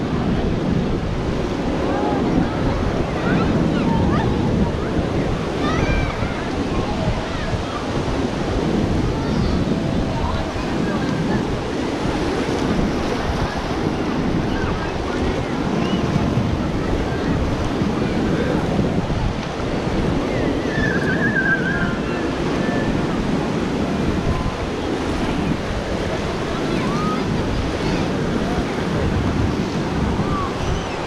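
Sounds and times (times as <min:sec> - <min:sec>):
surf washing on beach: 0:00.0 - 0:31.0
wind buffeting microphone: 0:00.0 - 0:31.0.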